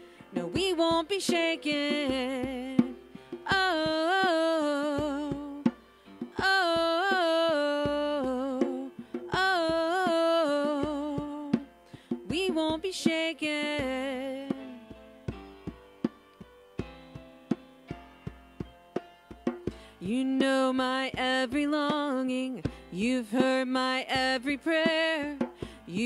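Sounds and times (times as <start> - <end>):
drum hits: 0.5 - 26.0.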